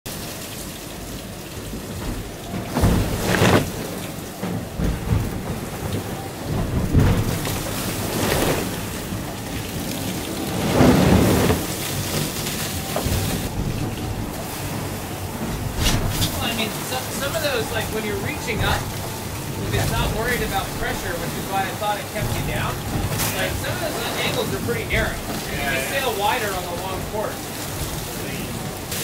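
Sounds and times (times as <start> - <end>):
sea water rushing against hull: 0.0 - 29.0
waves hitting boat: 0.1 - 29.0.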